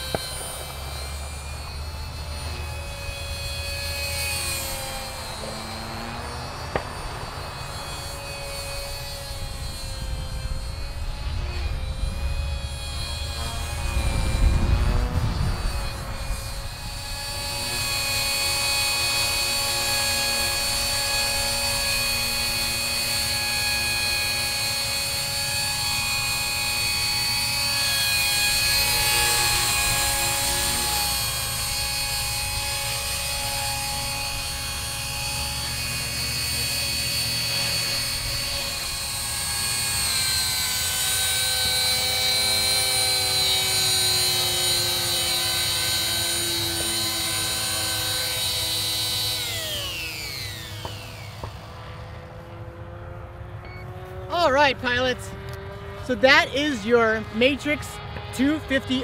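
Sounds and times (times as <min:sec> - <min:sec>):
rc helicopter motor whine: 0:00.0 - 0:59.0
rotor buzz: 0:00.0 - 0:59.0.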